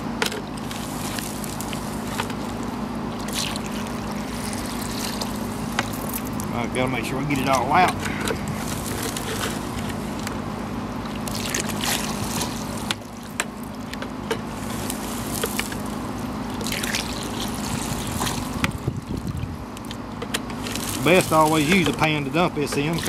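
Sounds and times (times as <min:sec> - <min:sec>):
water gurgling and splashing: 0:00.6 - 0:06.5, 0:07.3 - 0:10.2, 0:11.0 - 0:13.9, 0:14.6 - 0:20.0, 0:20.6 - 0:23.0.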